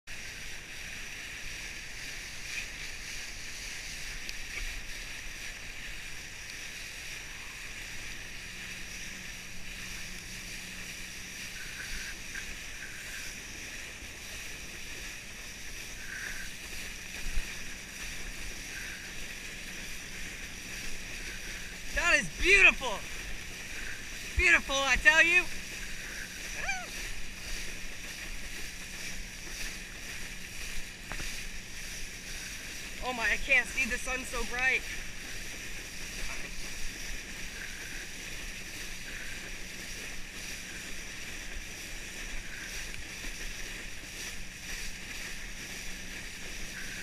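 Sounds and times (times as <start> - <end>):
low steady hum: 0.1 - 47.0
water rushing under a board: 0.1 - 47.0.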